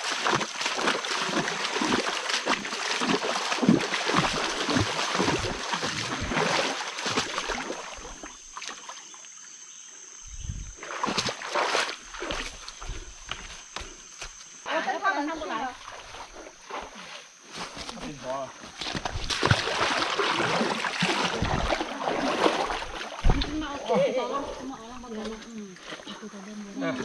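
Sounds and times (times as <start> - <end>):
footsteps wading through stream: 0.0 - 9.3, 10.5 - 14.6, 15.5 - 26.4.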